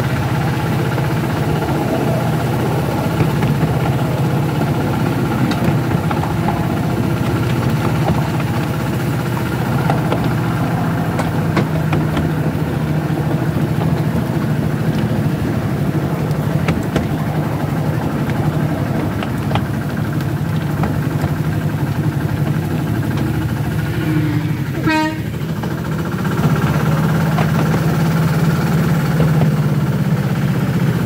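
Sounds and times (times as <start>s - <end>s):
miniature locomotive engine running: 0.0s - 31.0s
wheels clicking on rails: 0.0s - 31.0s.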